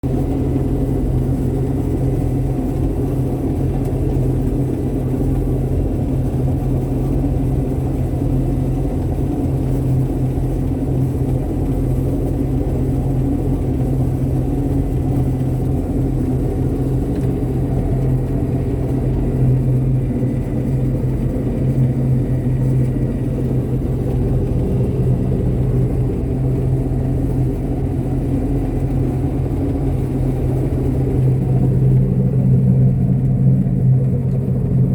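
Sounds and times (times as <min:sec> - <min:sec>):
harvest machinery engine rumbling: 0:00.0 - 0:34.9.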